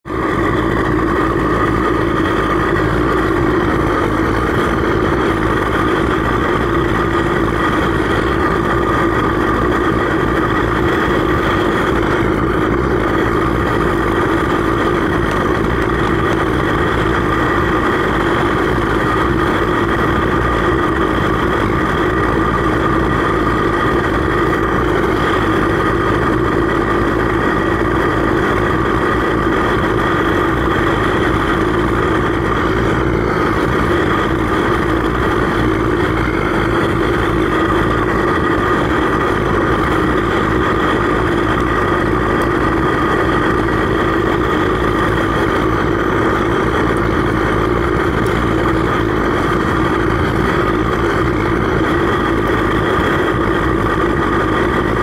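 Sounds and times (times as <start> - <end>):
furnace burner rushing hum: 0.0 - 55.0.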